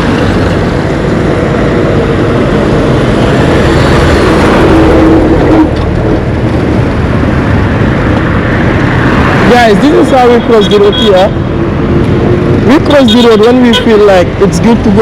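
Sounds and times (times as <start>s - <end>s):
cars driving by: 0.0s - 15.0s.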